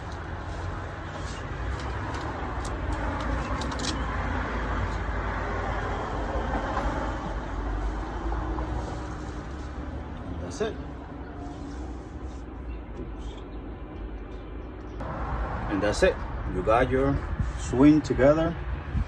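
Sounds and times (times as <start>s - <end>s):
vehicle passing by: 0.0s - 12.4s, 15.0s - 19.0s.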